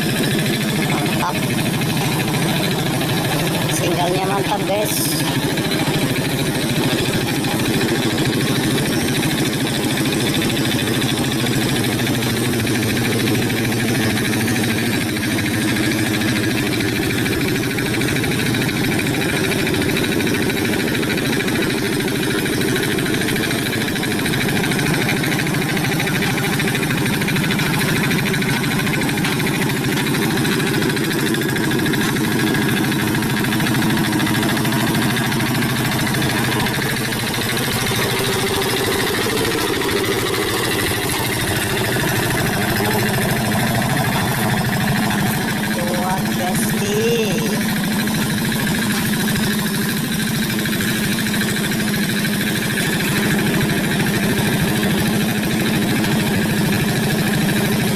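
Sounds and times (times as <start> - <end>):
diesel engine chugging: 0.0 - 57.9.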